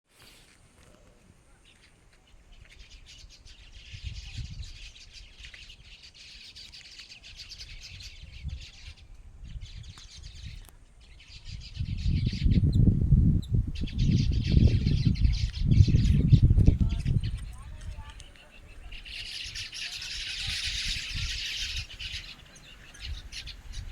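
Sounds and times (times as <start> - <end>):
small birds chirping: 0.2 - 23.9.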